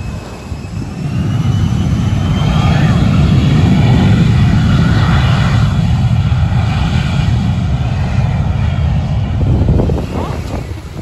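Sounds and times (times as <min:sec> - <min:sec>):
airplane engines rumbling: 0:00.0 - 0:11.0
faint engine whine: 0:00.0 - 0:11.0.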